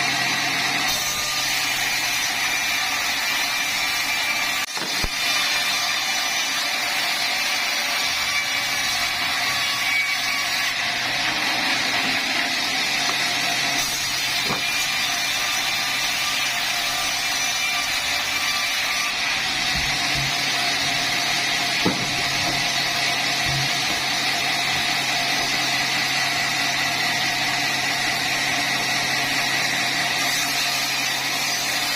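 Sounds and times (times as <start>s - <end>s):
sawmill saw whining: 0.0s - 31.9s.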